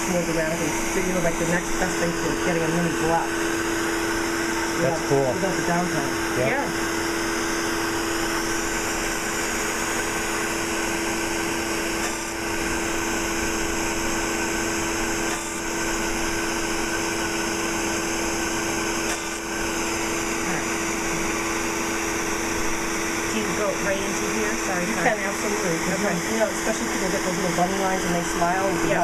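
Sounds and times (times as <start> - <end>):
laser machine hum: 0.0 - 29.0.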